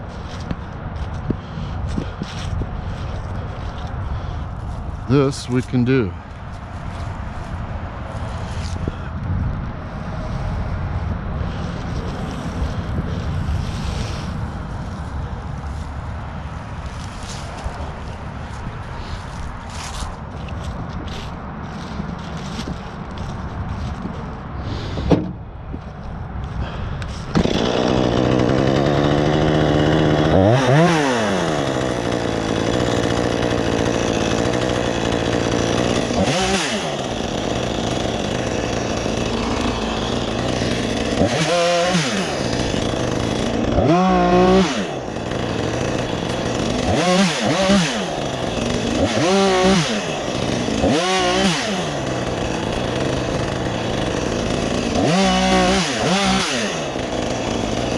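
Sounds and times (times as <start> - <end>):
gas chainsaw cutting tree trunk: 0.0 - 9.0, 11.3 - 25.4, 26.6 - 57.9.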